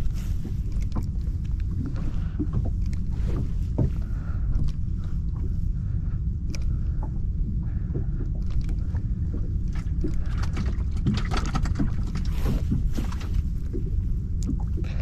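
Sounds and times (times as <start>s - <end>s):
low rumble of wind: 0.0s - 15.0s
water lapping against boat hull: 0.0s - 15.0s.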